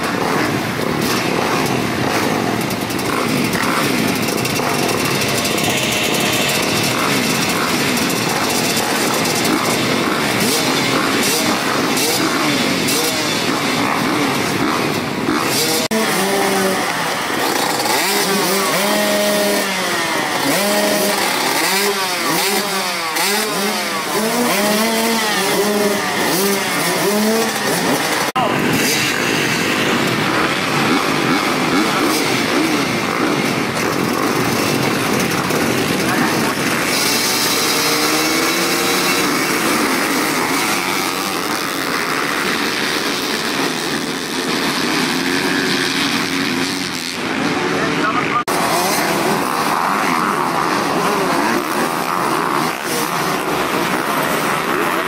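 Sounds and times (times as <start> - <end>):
motocross bikes revving: 0.0 - 55.0.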